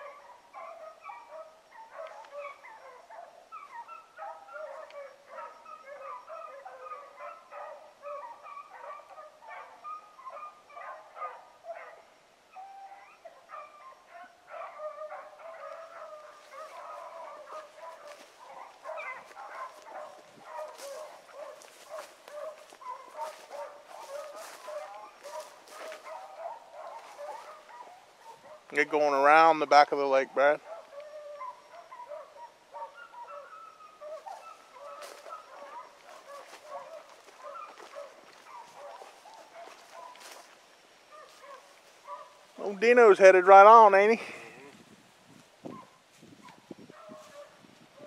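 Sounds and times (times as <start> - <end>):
distant hounds baying: 0.0 - 44.7, 45.6 - 48.0.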